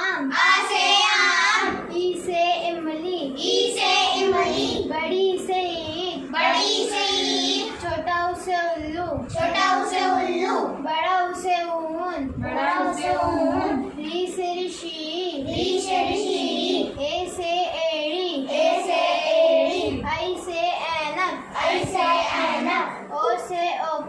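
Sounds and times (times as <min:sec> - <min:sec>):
child singing: 0:00.0 - 0:24.0.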